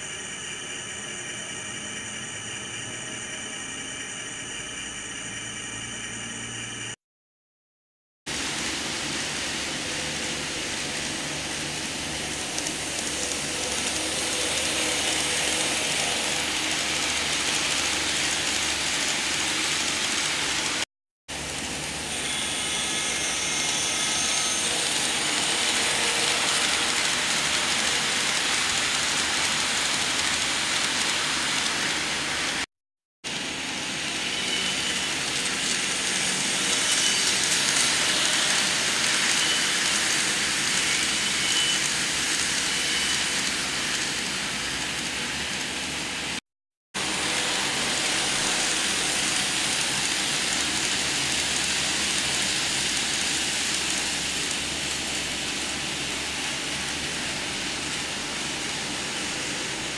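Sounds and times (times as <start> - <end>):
model train wheels rolling: 8.4 - 20.8, 21.5 - 32.7, 33.3 - 46.4, 47.0 - 59.9.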